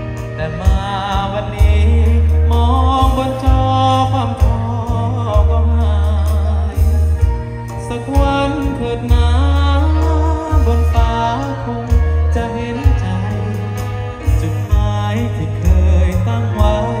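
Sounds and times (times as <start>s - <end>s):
amplified band music: 0.0s - 17.0s
man singing into a microphone: 0.0s - 17.0s.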